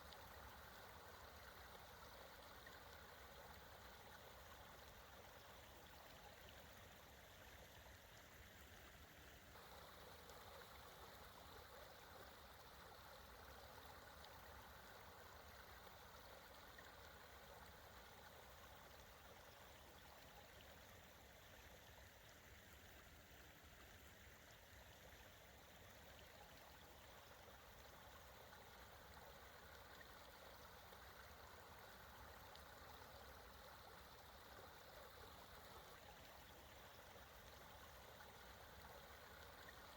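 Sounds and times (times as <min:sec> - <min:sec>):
creek water rushing: 0:00.0 - 0:22.2, 0:24.7 - 0:39.9.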